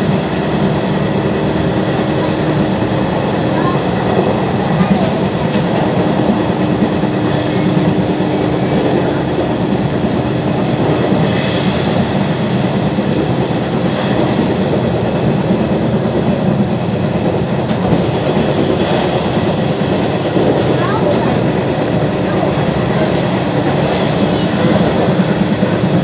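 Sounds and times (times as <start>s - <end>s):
train wheels on rails: 0.0s - 26.0s.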